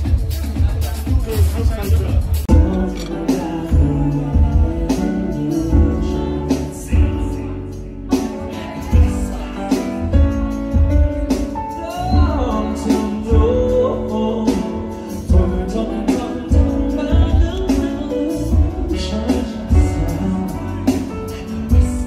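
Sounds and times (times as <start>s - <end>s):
live band playing: 0.0s - 22.0s
man singing: 2.5s - 22.0s.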